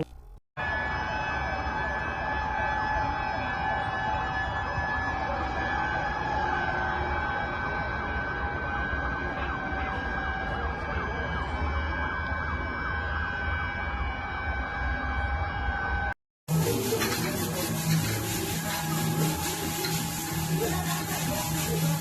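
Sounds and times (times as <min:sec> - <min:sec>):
emergency sirens wailing: 0:00.6 - 0:22.0.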